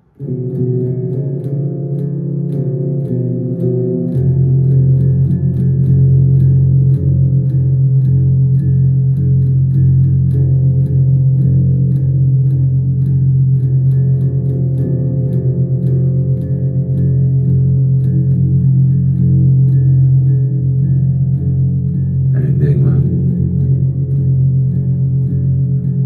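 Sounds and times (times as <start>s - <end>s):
guitar slow instrumental: 0.0s - 26.0s.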